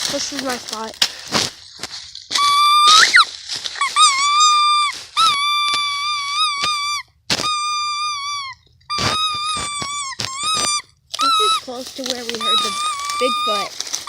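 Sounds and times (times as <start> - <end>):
dog whining: 2.3 - 13.7.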